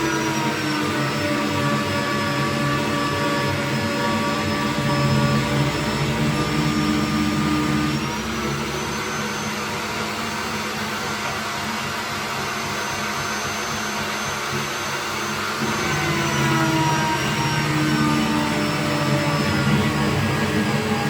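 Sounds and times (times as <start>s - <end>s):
magnetic drill motor whine: 0.0s - 21.0s.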